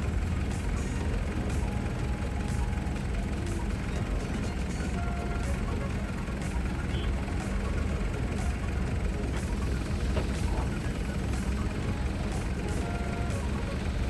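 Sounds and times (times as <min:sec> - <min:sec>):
faint engine ticks: 0:00.0 - 0:14.0
heavy engine idling: 0:00.0 - 0:14.0.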